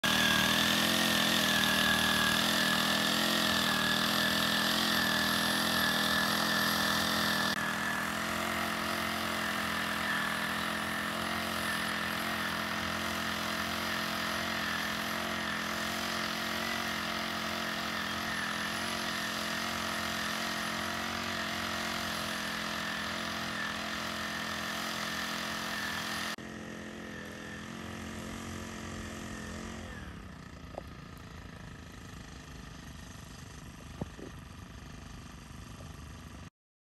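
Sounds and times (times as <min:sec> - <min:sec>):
small engine running steadily: 0:00.0 - 0:36.5.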